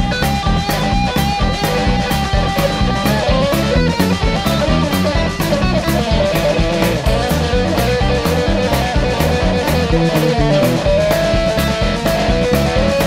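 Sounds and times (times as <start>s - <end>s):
guitar: 0.0s - 13.0s
steady drum beat: 0.0s - 13.0s.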